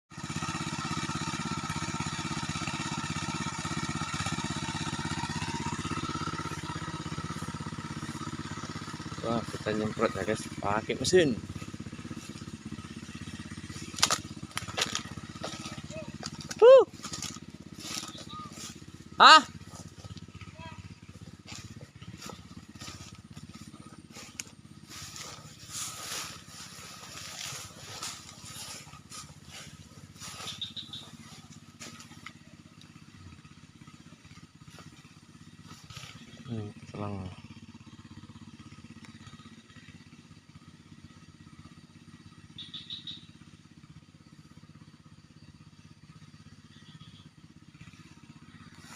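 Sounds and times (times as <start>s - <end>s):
small engine running steadily: 0.1s - 48.9s.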